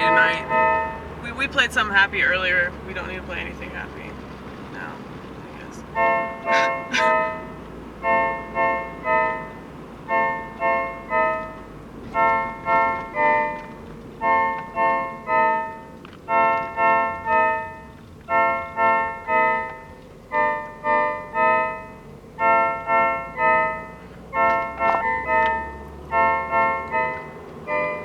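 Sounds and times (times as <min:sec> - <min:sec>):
keyboard chords: 0:00.0 - 0:28.0.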